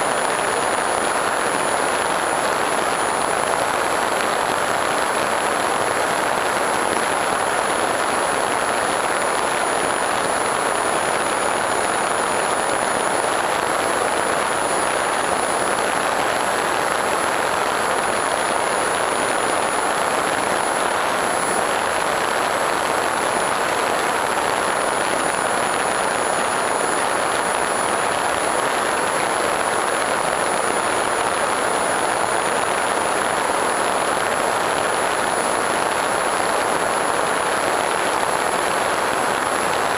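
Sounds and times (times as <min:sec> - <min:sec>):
thin high whine: 0:00.0 - 0:39.9.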